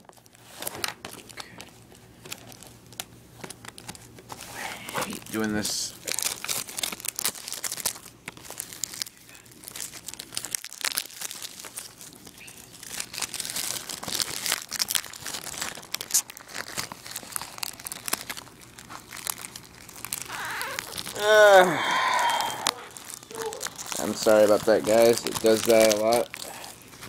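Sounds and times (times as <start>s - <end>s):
plastic wrap crinkling and tearing: 0.0s - 27.0s
plastic wrap snapping: 4.9s - 27.0s.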